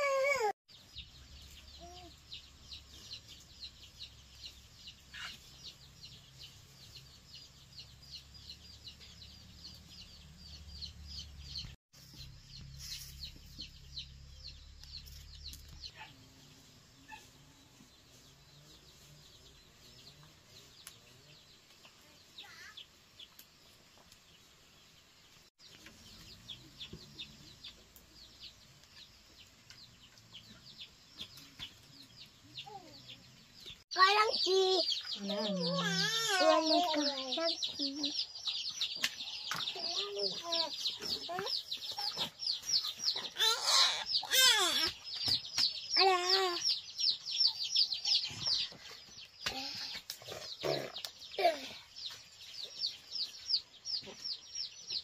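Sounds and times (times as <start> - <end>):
chicks peeping: 0.7 - 16.2, 17.0 - 55.0.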